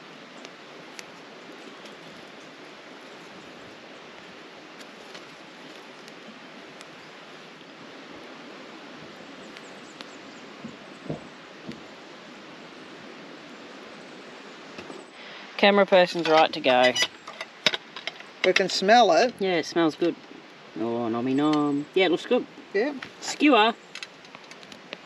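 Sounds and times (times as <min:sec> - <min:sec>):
campfire crackling: 0:00.0 - 0:25.0
steady outdoor hiss: 0:00.0 - 0:25.0.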